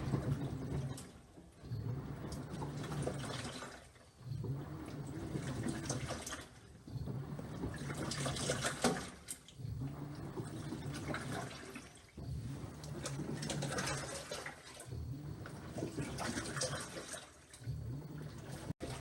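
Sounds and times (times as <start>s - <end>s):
washing machine motor hum: 0.0s - 19.0s
water sloshing: 0.0s - 19.0s.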